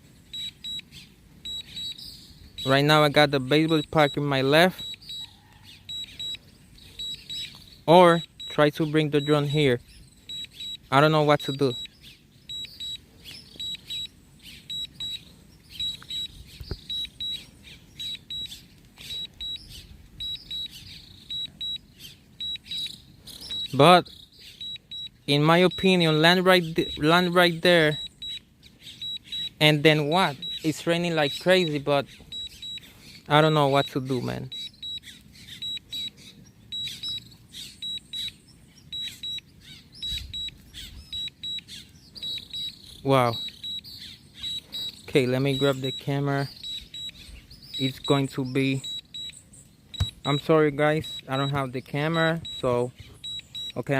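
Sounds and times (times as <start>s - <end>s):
short high warning beeps: 1.4s - 53.9s.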